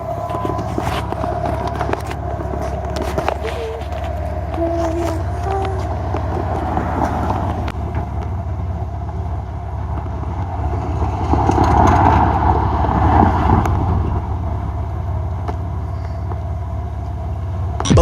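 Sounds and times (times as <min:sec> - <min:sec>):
car engine hum: 0:00.0 - 0:18.0
road noise: 0:00.0 - 0:18.0.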